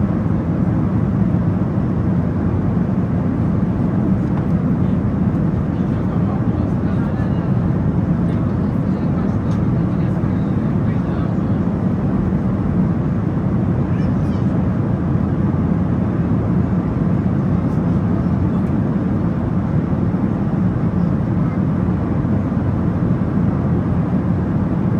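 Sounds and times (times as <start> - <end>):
air rushing along fuselage: 0.0 - 24.9
jet engine cabin roar: 0.0 - 24.9.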